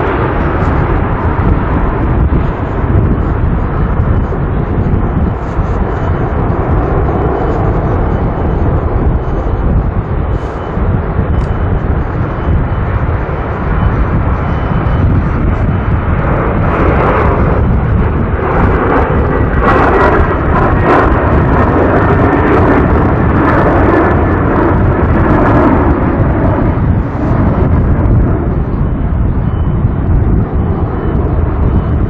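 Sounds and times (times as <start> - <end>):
jet engines roaring at takeoff: 0.0 - 32.0
wind buffeting microphone: 0.0 - 32.0.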